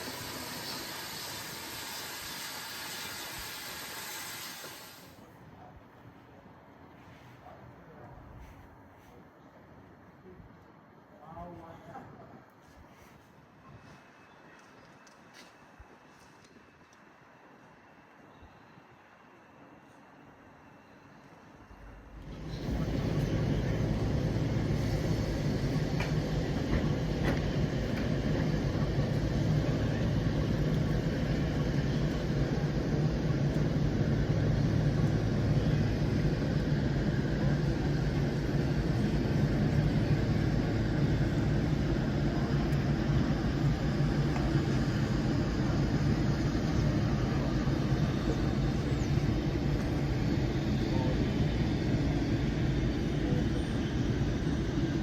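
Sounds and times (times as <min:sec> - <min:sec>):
moving train rumble: 0:00.0 - 0:55.0.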